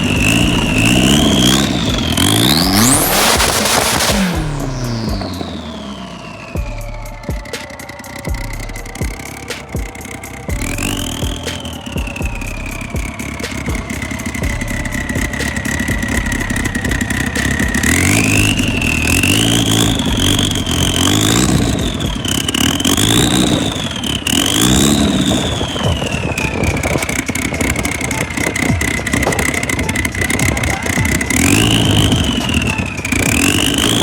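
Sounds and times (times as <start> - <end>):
car engine idling and revving: 0.0 - 34.0
high engine whine: 0.0 - 34.0.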